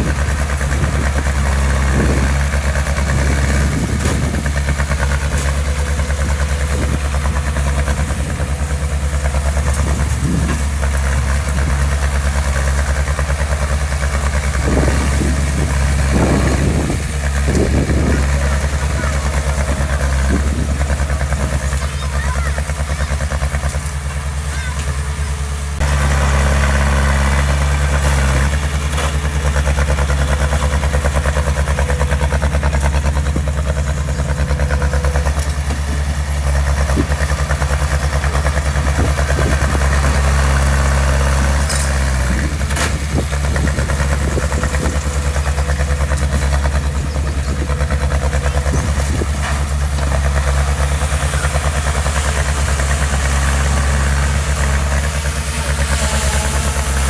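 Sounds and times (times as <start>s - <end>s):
diesel engine running at low revs: 0.0s - 57.0s.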